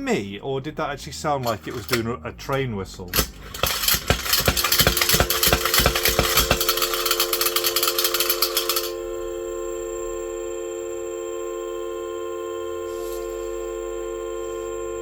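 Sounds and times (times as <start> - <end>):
spinning top humming chord: 1.0 - 15.0.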